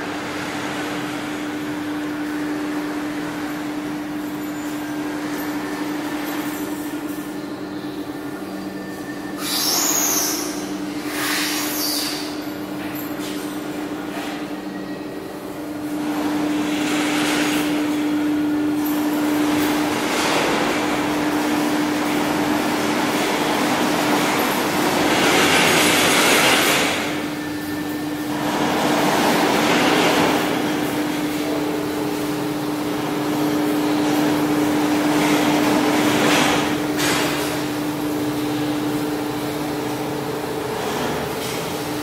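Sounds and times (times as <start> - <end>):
steady machine hum: 0.0 - 42.0.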